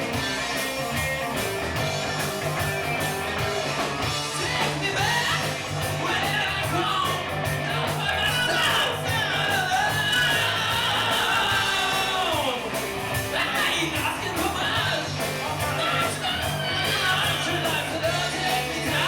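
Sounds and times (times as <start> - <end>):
electric guitar lead line bending: 0.0 - 19.0
live rock band playing: 0.0 - 19.0.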